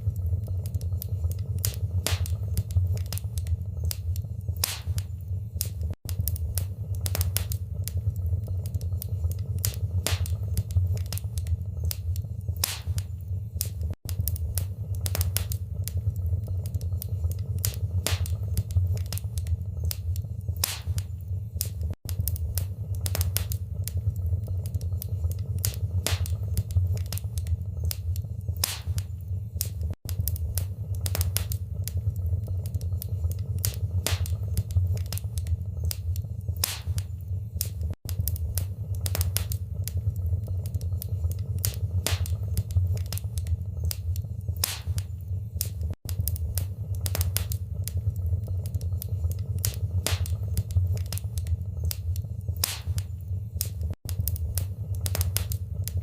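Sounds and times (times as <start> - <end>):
steady low rumble: 0.0 - 56.0
wood fire crackling: 0.0 - 56.0
sharp pops of burning wood: 0.5 - 56.0.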